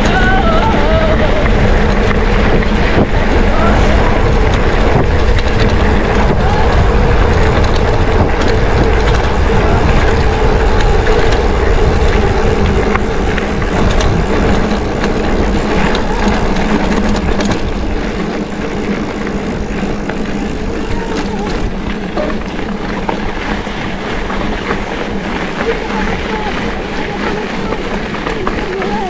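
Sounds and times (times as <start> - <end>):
bike tyres rolling on dirt: 0.0 - 29.0
rattles and clicks from bumps: 0.0 - 29.0
wind buffeting microphone: 0.0 - 29.0.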